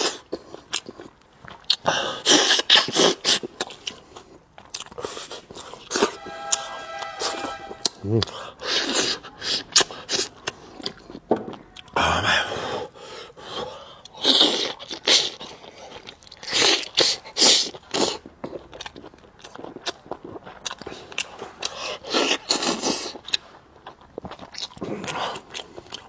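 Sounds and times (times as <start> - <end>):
chewing meat off the bone: 0.0 - 6.1, 8.2 - 12.0, 13.0 - 26.0.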